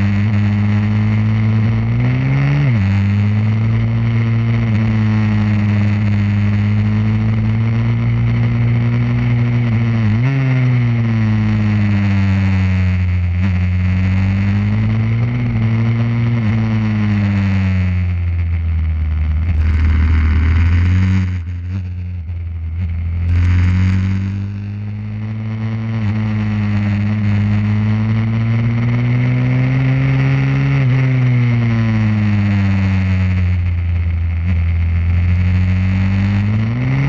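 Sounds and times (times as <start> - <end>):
pit bike engine revving: 0.0 - 37.0.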